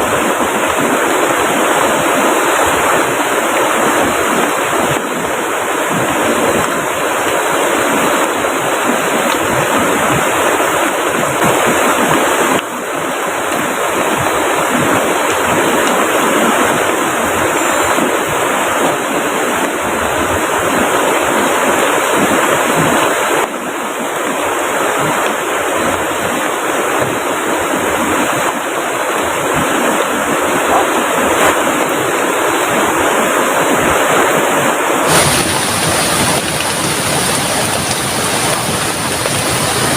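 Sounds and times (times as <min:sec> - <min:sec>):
heavy rain falling: 0:00.0 - 0:39.9
river rushing: 0:00.0 - 0:39.9.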